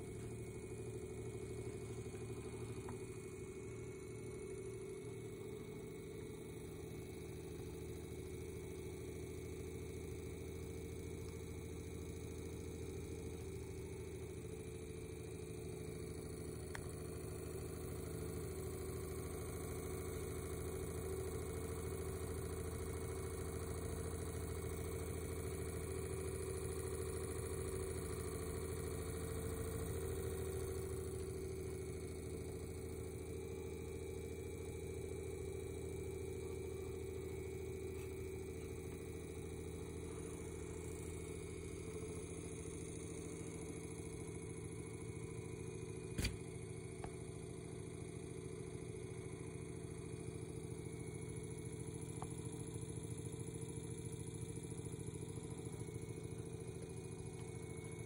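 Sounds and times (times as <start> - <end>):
electric fan motor hum: 0.0 - 47.4.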